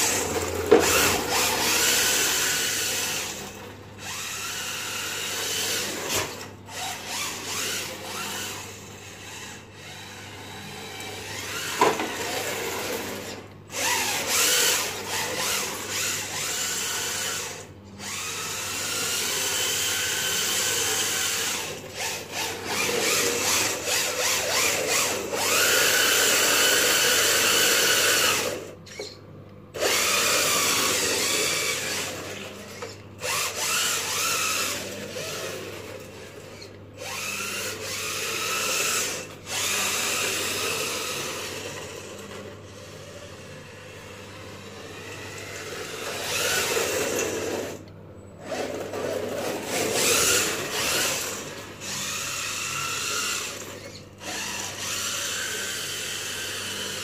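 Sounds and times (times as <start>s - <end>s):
electric motor whining: 0.0s - 29.2s, 29.8s - 43.5s, 44.1s - 47.9s, 48.5s - 57.0s.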